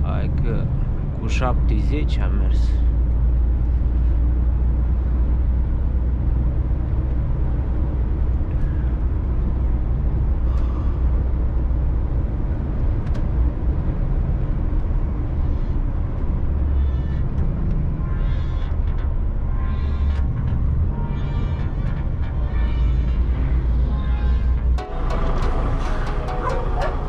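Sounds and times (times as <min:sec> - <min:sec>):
truck diesel engine droning: 0:00.0 - 0:27.0.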